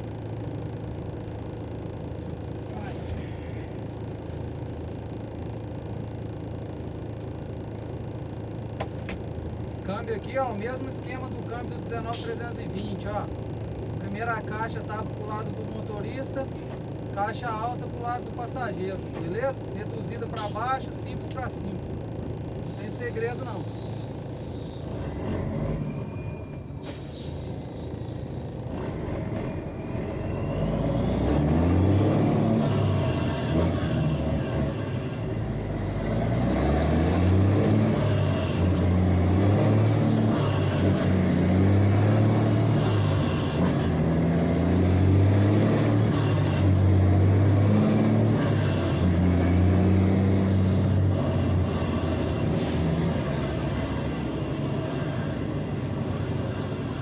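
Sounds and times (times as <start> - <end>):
diesel truck engine accelerating: 0.0 - 57.0.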